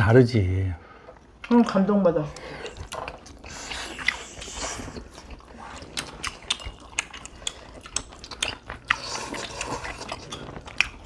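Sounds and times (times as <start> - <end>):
wet chewing: 1.0 - 11.0.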